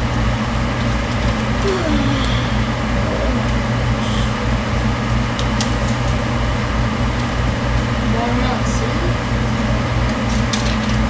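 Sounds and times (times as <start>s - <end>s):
motor hum with low drone: 0.0s - 11.0s.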